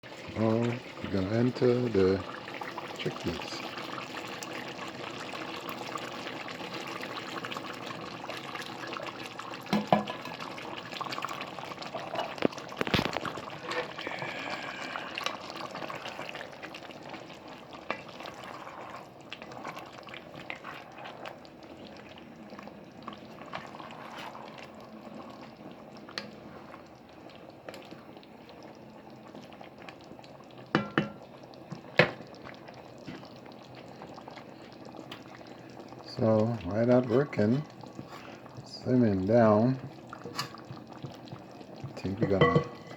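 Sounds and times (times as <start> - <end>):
pot bubbling: 0.0 - 42.9.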